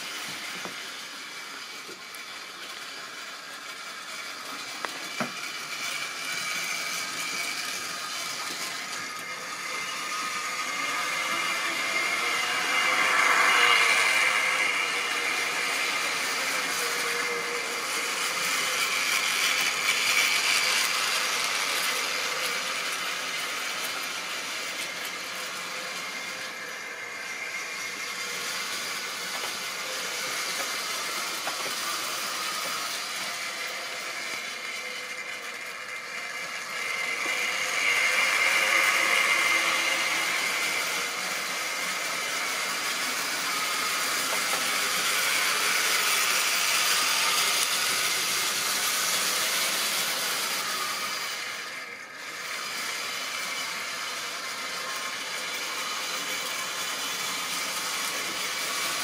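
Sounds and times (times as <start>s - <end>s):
model train motor whirring: 0.0s - 59.0s
wheels running on rails: 0.0s - 59.0s.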